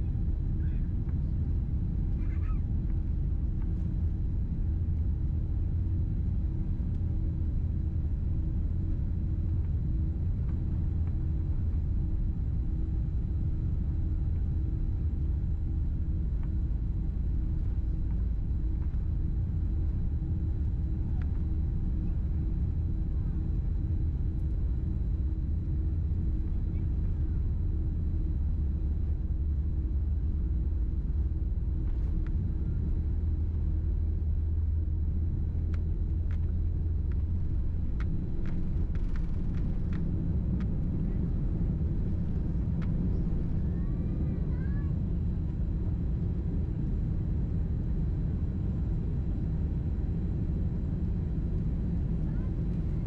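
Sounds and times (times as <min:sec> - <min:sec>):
low cabin hum: 0:00.0 - 0:53.0
jet engines rumbling: 0:07.2 - 0:47.4, 0:48.0 - 0:53.0.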